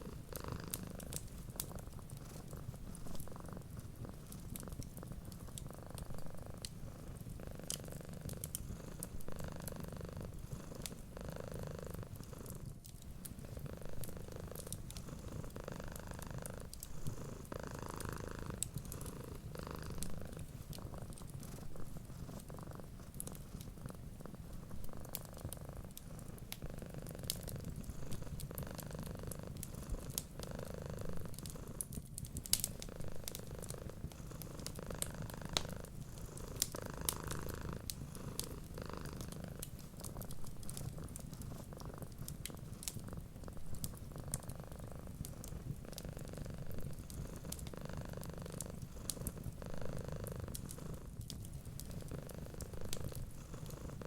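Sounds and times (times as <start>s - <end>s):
wood fire crackling: 0.0s - 9.7s, 12.4s - 30.5s, 31.1s - 54.0s
cat purring: 0.0s - 54.0s.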